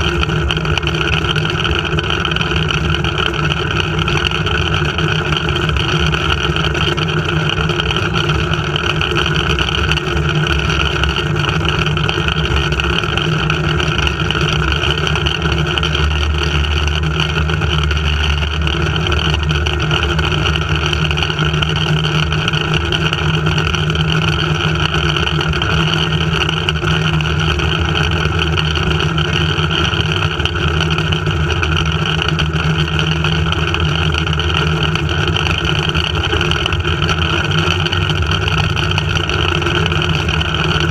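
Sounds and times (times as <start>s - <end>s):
zipline pulley wheels humming: 0.0s - 40.9s.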